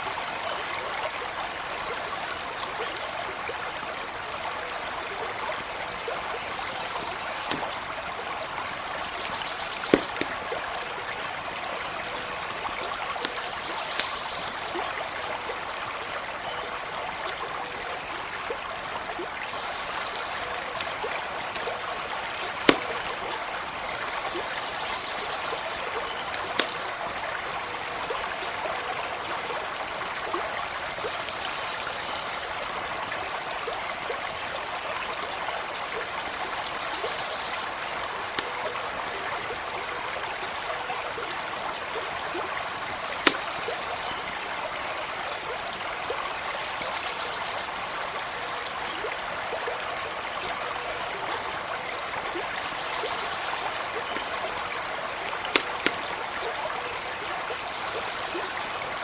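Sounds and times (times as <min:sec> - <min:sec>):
stream trickling: 0:00.0 - 0:59.0
campfire crackling and popping: 0:00.5 - 0:28.8, 0:32.2 - 0:59.0.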